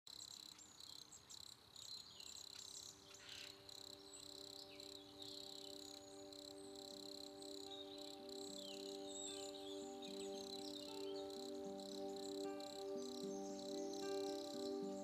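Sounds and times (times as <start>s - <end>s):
soft held music tones: 2.6s - 15.0s.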